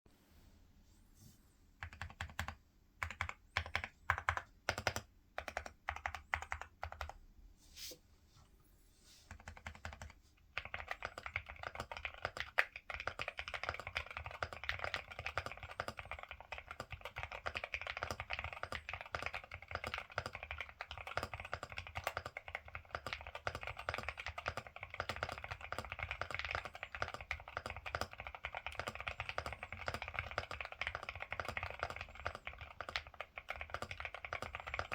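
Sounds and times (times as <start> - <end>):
typing on mechanical keyboard: 1.8 - 7.2, 9.3 - 34.9.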